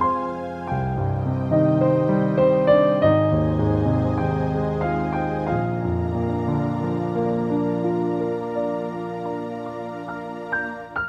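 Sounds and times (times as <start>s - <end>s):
slow music with held notes: 0.0s - 11.0s.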